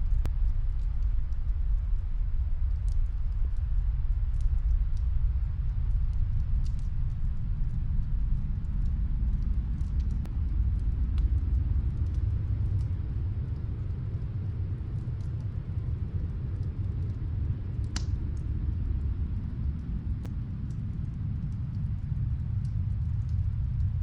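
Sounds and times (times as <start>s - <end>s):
snowstorm wind rumbling: 0.0s - 24.0s
wood fire crackling: 0.0s - 24.0s.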